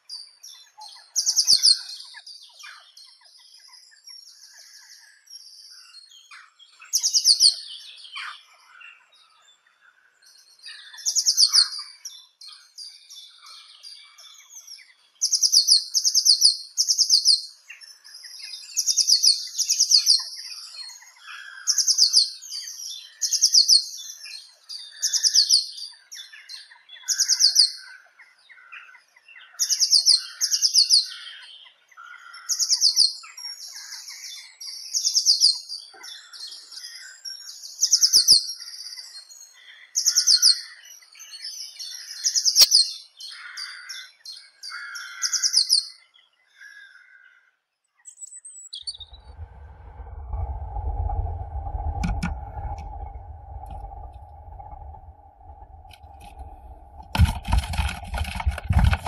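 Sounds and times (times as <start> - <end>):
faint bird chirps: 0.0 - 57.1.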